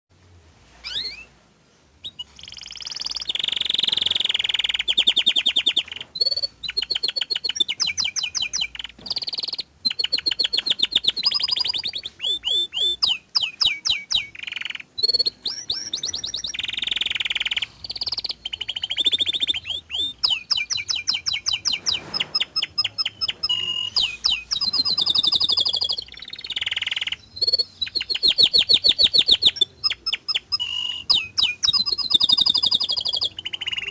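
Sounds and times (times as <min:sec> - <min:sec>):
canary singing trills: 0:00.8 - 0:01.4, 0:02.0 - 0:33.9.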